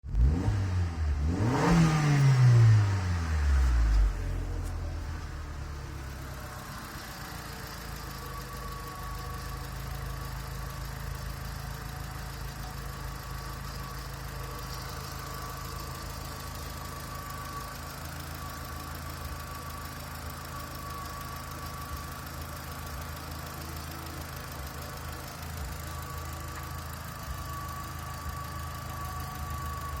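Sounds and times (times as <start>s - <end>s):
car engine idling: 0.1s - 30.0s.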